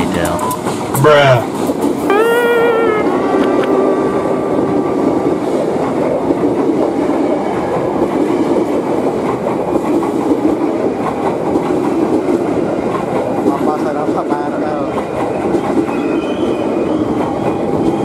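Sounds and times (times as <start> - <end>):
electric train passing close: 0.0 - 18.0.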